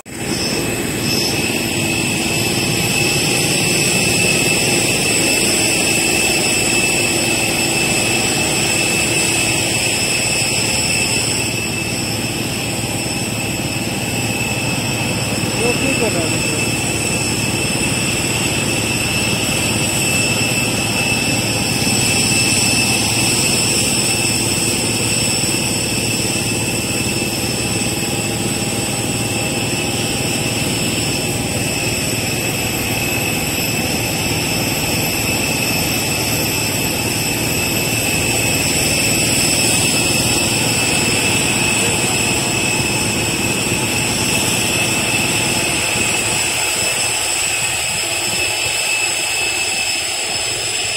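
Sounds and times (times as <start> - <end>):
high steady whining tones: 0.0 - 50.9
jet turbine roaring: 0.0 - 50.9.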